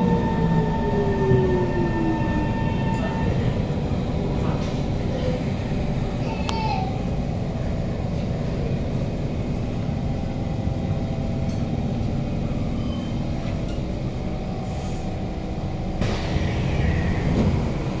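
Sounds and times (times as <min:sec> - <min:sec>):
train rumbling from inside: 0:00.0 - 0:18.0.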